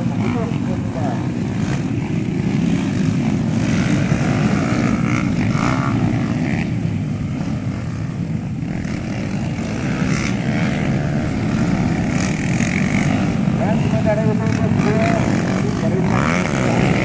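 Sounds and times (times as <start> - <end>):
motorcycle engines droning: 0.0 - 17.0.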